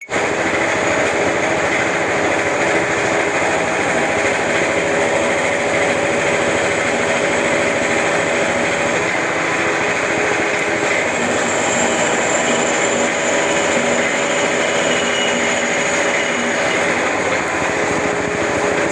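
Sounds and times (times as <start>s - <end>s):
lathe running with whine: 0.0s - 18.9s.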